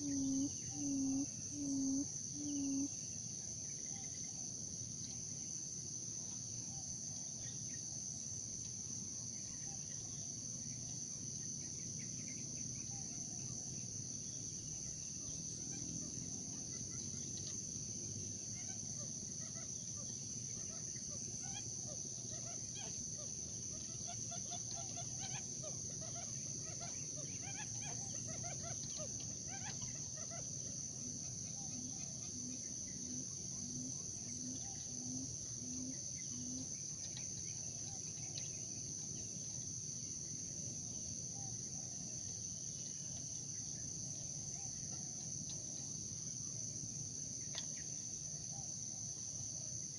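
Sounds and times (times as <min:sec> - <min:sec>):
crickets trilling: 0:00.0 - 0:49.9
short insect chirps: 0:00.0 - 0:49.9.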